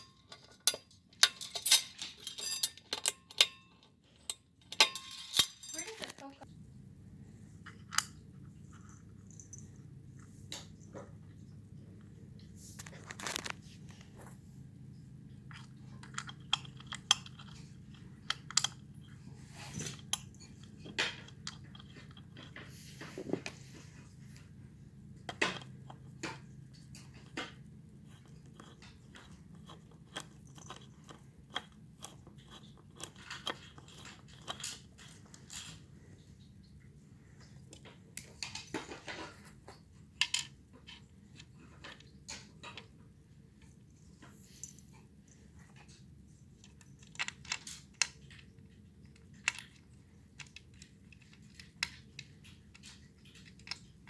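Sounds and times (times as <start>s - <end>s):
parts and packaging handled: 0.0s - 6.5s, 7.6s - 43.0s, 43.6s - 54.0s.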